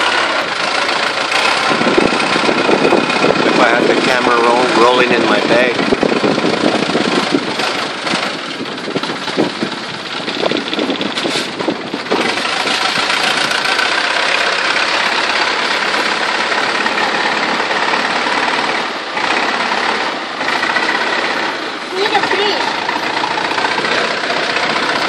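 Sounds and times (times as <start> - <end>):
boat engine drone: 0.0 - 25.0
rushing water and spray: 0.0 - 25.0.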